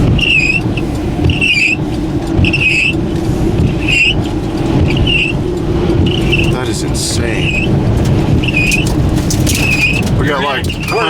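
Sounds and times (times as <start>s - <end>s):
roar of strong wind: 0.0s - 11.0s
windshield wipers squealing: 0.0s - 11.0s.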